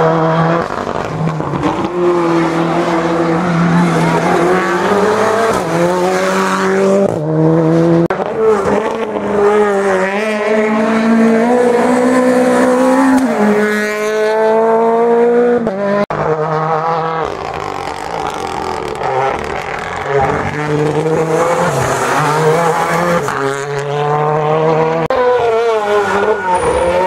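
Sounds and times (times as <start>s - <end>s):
rally car engines at full throttle: 0.0s - 27.0s.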